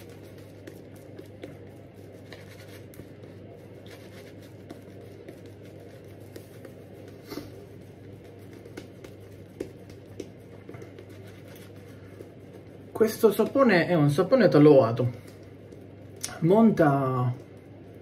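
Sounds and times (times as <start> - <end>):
shaving brush swishing on skin: 0.0 - 18.0.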